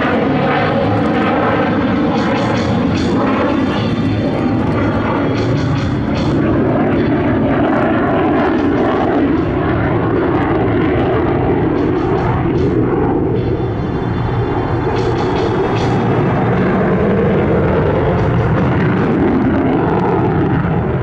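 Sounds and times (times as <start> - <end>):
loud jet engine noise: 0.0 - 21.0.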